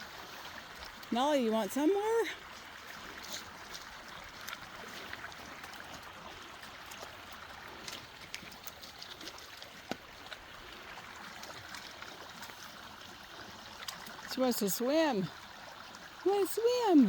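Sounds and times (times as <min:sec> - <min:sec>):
faint ticks and small splashes: 0:00.0 - 0:17.0
stream water flowing: 0:00.0 - 0:17.0.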